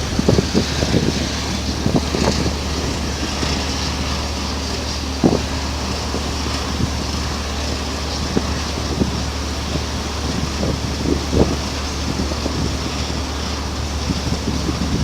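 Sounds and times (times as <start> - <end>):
low engine drone: 0.0 - 15.0
wind buffeting microphone: 0.0 - 15.0.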